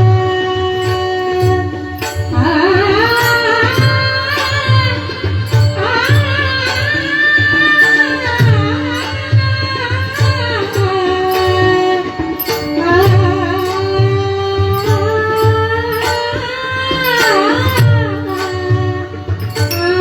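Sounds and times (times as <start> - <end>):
held instrumental notes: 0.0 - 20.0
sharp percussive strokes: 0.0 - 20.0
drum beat: 2.2 - 20.0.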